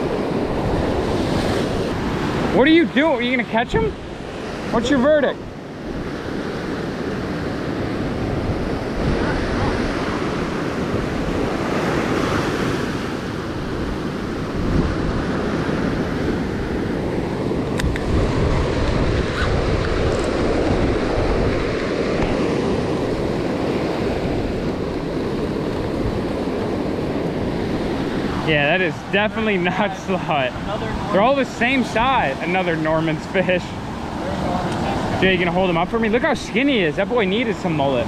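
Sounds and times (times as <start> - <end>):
ocean surf breaking on beach: 0.0 - 38.0
wind buffeting microphone: 0.0 - 38.0.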